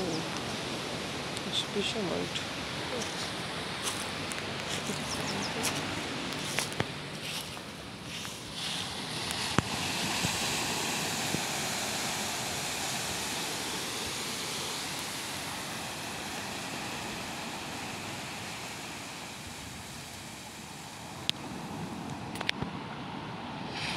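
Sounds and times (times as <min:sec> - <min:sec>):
ocean surf breaking on beach: 0:00.0 - 0:23.9.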